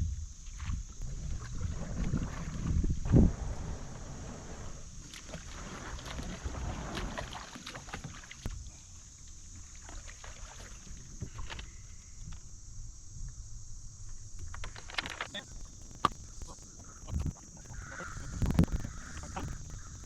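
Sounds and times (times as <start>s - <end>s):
high insect drone: 0.0s - 20.0s
water swishing around kayak hull: 0.4s - 12.0s, 15.0s - 20.0s.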